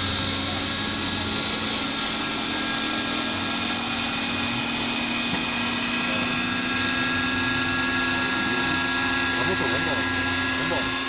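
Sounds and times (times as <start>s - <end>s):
model helicopter rotor whine: 0.0s - 11.0s.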